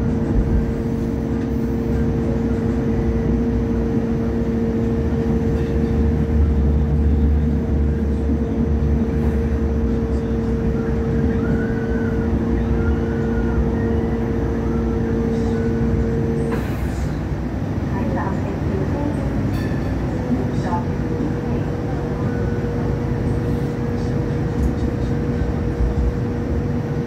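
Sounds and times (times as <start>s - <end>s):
light rail train rumble: 0.0s - 27.0s.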